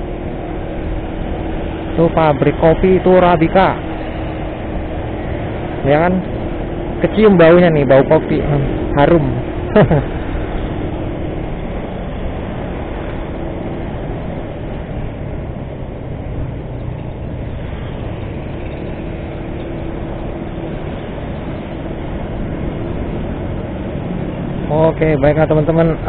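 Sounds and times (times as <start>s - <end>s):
road noise: 0.0s - 26.0s
scooter engine hum: 0.0s - 26.0s
wind noise: 0.0s - 26.0s.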